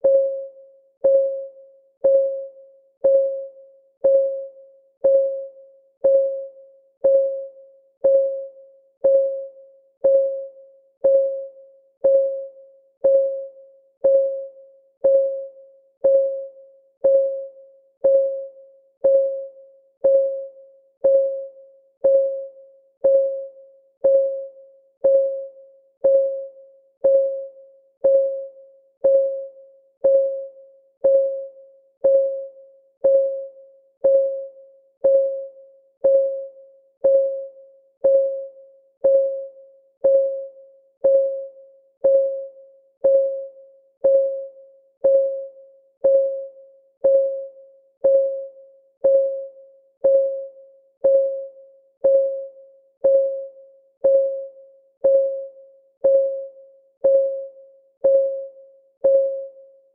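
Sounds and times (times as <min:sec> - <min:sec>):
countdown timer ticking: 0:01.0 - 0:59.6.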